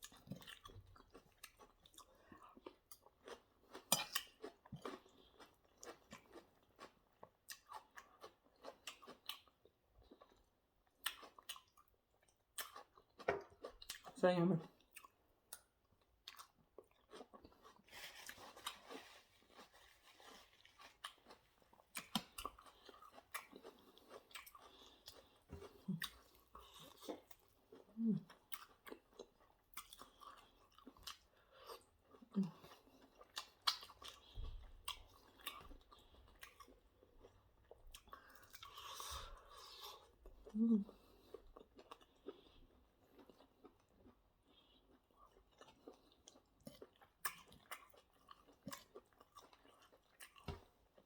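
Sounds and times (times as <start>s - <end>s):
chewing and crunching: 0.0s - 51.0s.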